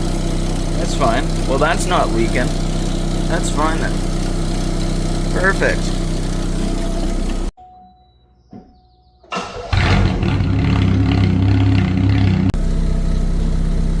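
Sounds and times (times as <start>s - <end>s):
car engine starting and running: 0.0s - 7.6s, 9.2s - 14.0s.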